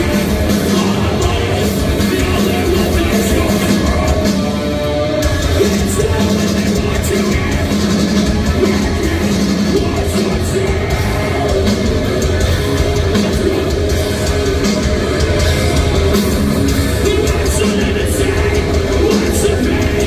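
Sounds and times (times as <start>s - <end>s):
distorted electric guitars: 0.0s - 20.0s
drums with crashing cymbals: 0.0s - 20.0s
vocals: 0.0s - 20.0s.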